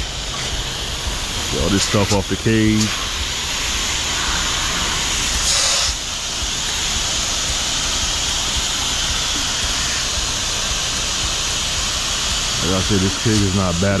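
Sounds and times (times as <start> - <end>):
engine drone: 0.0 - 14.0
pressure washer water spray hiss: 0.0 - 14.0.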